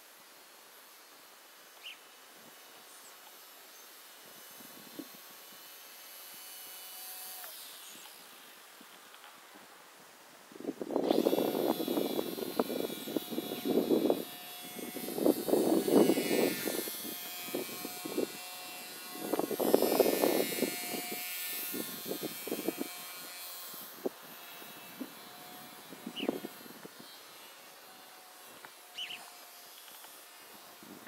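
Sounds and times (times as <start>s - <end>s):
model plane motor whining: 1.8s - 9.7s, 10.7s - 31.0s.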